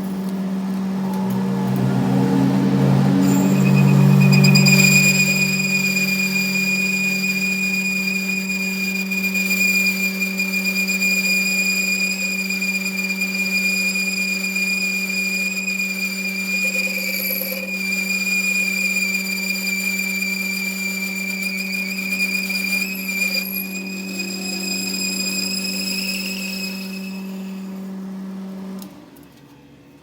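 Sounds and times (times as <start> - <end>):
low hum: 0.0 - 28.4
workshop machine whining: 0.0 - 29.8.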